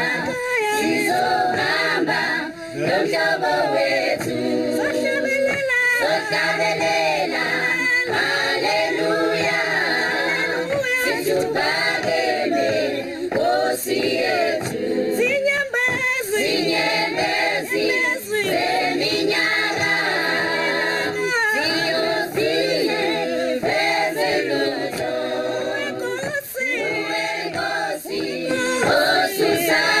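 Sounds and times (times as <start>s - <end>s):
choir singing in harmony: 0.0s - 30.0s.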